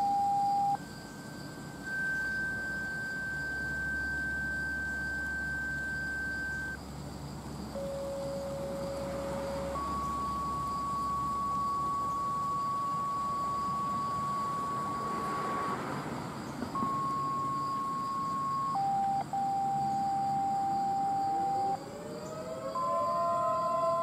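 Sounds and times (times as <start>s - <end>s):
steady electronic beep tones: 0.0s - 6.8s, 7.7s - 15.8s, 16.7s - 24.0s.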